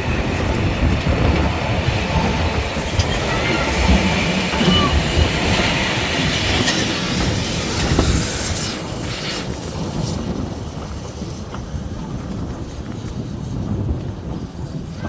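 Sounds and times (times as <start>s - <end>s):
railway carriage rumble and rattle: 0.0s - 15.0s.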